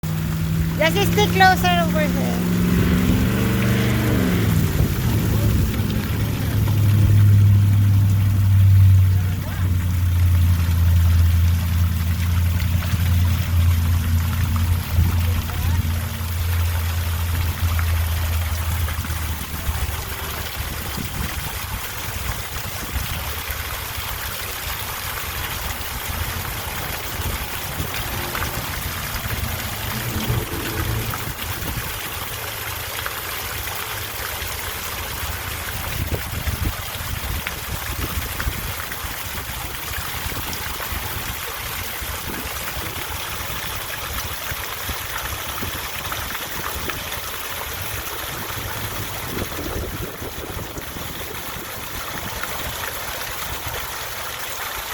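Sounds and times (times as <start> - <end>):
fountain water trickling: 0.0 - 54.9.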